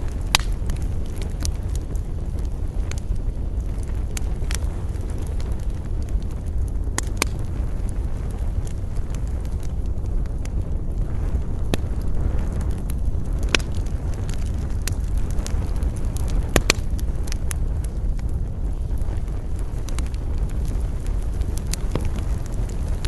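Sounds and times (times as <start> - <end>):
campfire crackling and popping: 0.0 - 23.0
low rumble of wind: 0.0 - 23.0.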